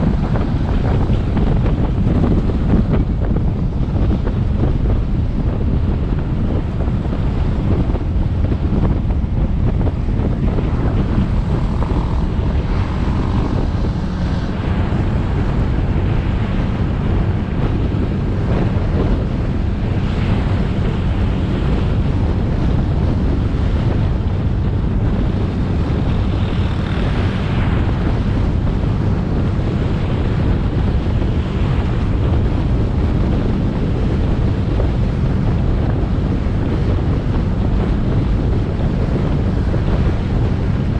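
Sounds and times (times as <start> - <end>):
motorcycle engine: 0.0 - 32.8
road noise: 0.0 - 40.9
wind rumble on microphone: 0.0 - 40.9.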